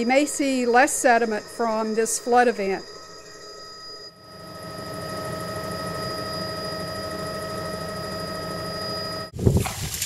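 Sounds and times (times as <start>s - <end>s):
helicopter cabin rumble and whine: 0.0s - 9.3s.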